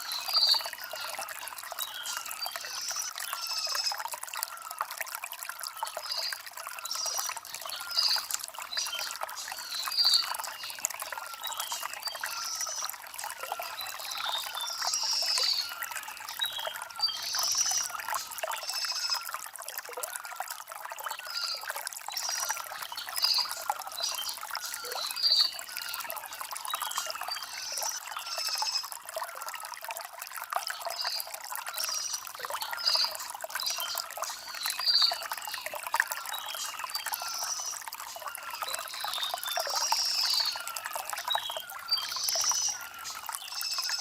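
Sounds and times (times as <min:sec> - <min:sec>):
stream trickling over stones: 0:00.0 - 0:44.0.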